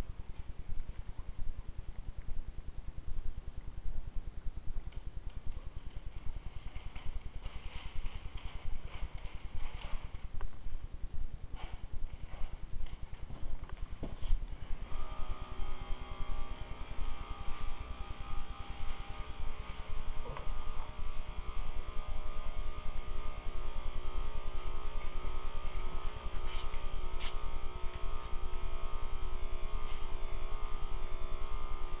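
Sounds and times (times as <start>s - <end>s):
pulsing machine hum: 0.0s - 32.0s.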